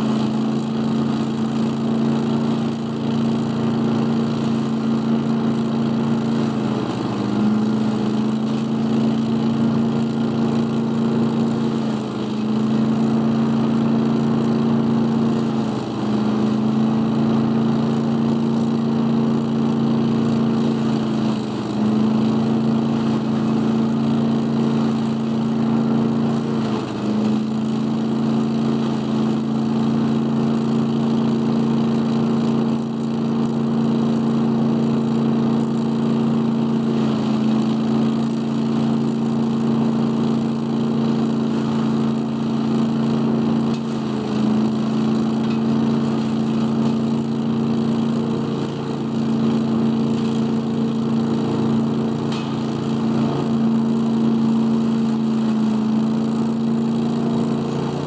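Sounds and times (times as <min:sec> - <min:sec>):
leaf vacuum engine running: 0:00.0 - 0:58.0.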